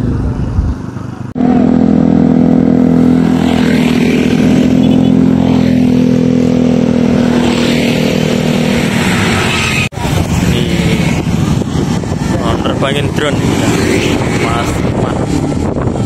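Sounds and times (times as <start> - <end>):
motorcycle engines passing: 0.0 - 16.0.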